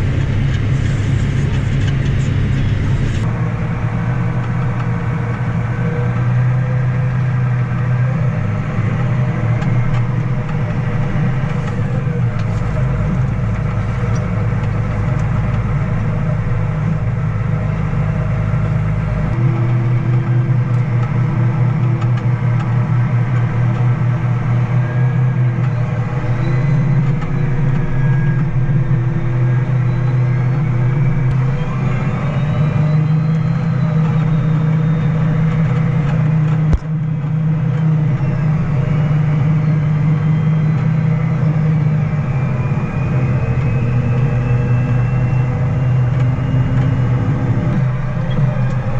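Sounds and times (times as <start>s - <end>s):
vehicle engine running under load: 0.0s - 48.9s.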